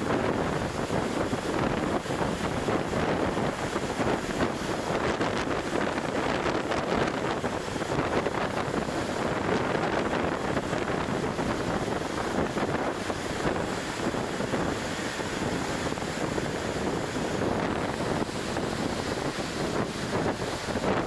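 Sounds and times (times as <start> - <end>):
breaking waves: 0.0 - 21.0
strong wind on microphone: 0.0 - 21.0.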